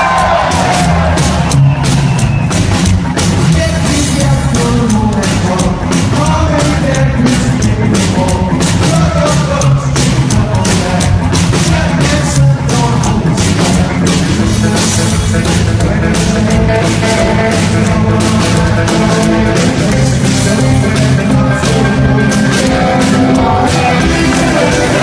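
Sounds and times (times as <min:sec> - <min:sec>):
drum kit beat: 0:00.0 - 0:25.0
electric guitar: 0:00.0 - 0:25.0
upright double bass: 0:00.0 - 0:25.0
lead vocals: 0:03.2 - 0:25.0.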